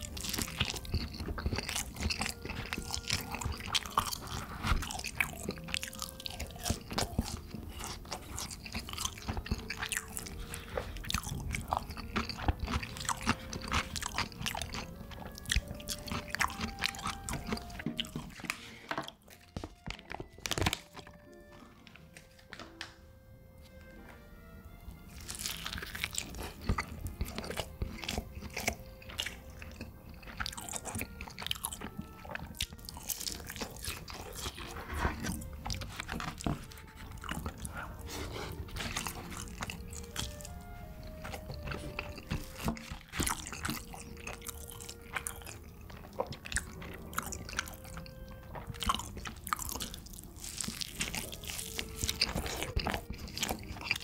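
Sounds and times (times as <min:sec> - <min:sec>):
person chewing crunchy food: 0:00.0 - 0:22.3, 0:23.6 - 0:54.0
soft background music: 0:00.0 - 0:54.0.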